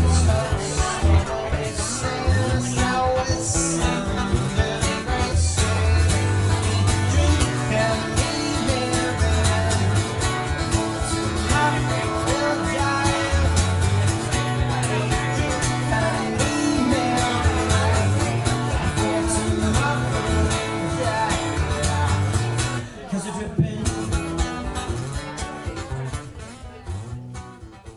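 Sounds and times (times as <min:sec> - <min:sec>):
person singing: 0:00.0 - 0:25.8
acoustic guitar: 0:00.0 - 0:27.9.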